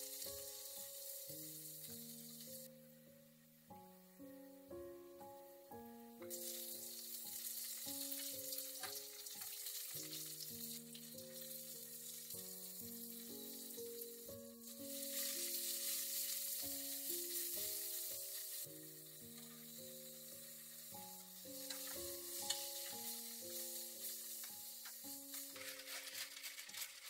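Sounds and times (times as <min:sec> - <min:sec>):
sizzling in hot oil: 0:00.0 - 0:02.8, 0:06.2 - 0:27.0
soft background music: 0:00.0 - 0:27.0.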